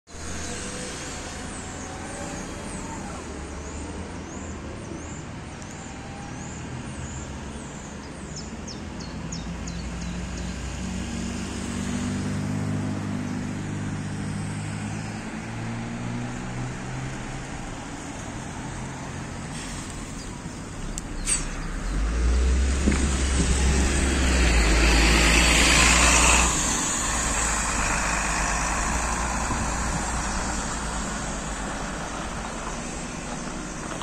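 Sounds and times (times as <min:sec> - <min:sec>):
bus engine approaching: 0:00.1 - 0:34.0.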